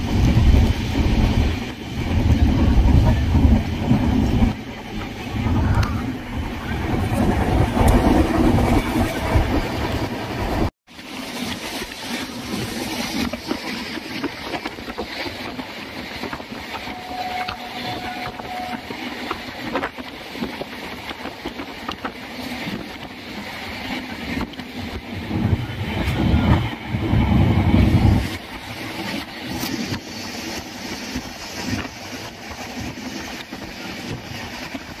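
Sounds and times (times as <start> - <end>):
wind on microphone: 0.0 - 10.7, 11.4 - 35.0
train rumbling: 0.0 - 35.0.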